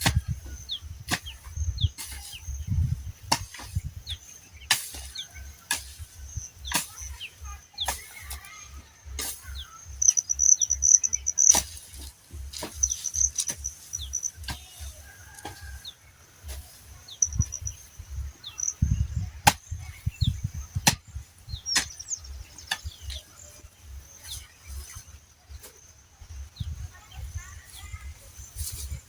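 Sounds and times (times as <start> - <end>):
bird chirps: 0.0 - 16.0, 16.6 - 29.0
low thuds: 0.0 - 25.1.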